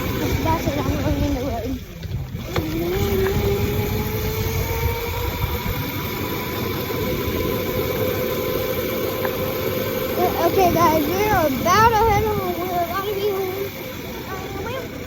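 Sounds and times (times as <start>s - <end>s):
small motorbike whining: 0.0s - 15.0s.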